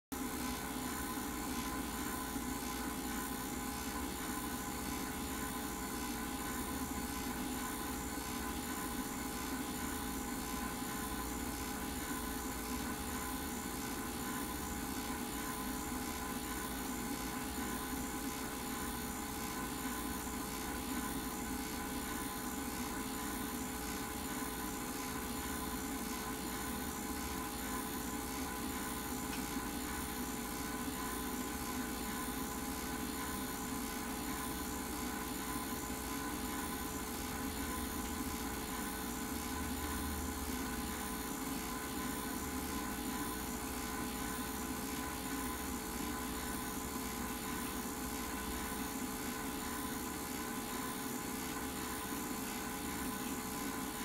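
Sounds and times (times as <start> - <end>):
film projector motor whirring: 0.2 - 54.0.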